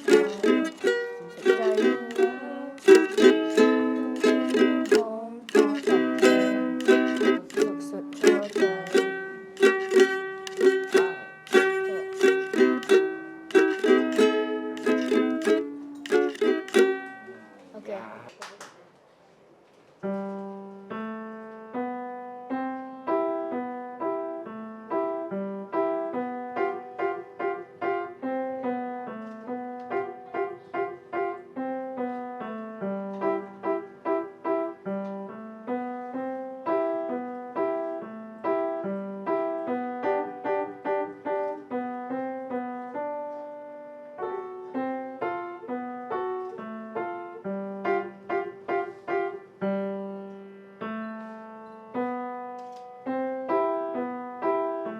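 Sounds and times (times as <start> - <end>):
piano melody over chords: 0.0 - 17.4, 20.2 - 54.9.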